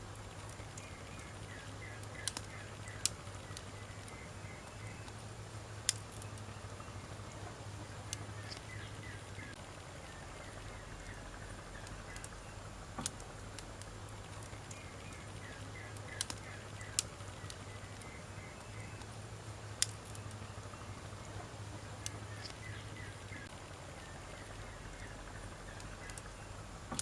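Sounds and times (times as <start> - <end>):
campfire crackling and popping: 0.0 - 27.0
steady low hum: 0.0 - 27.0.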